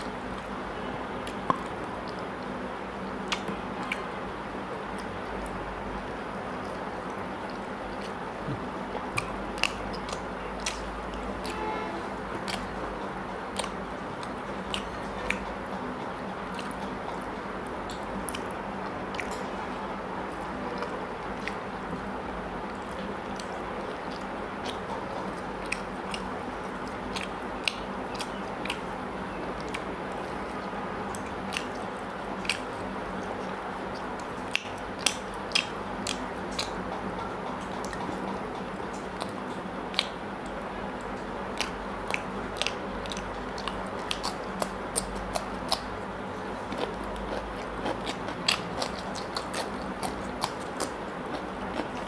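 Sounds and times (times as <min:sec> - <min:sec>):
chewing with wet mouth clicks: 0:00.0 - 0:11.6, 0:12.2 - 0:52.0.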